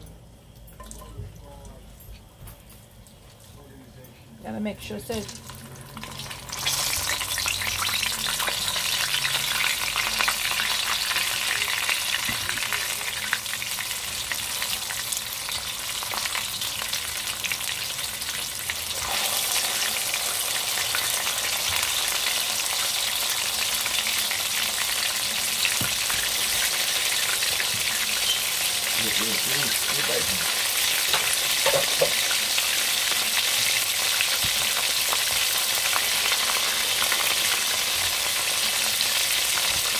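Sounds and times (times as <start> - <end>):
chicken wings sizzling in oil: 4.8 - 39.9.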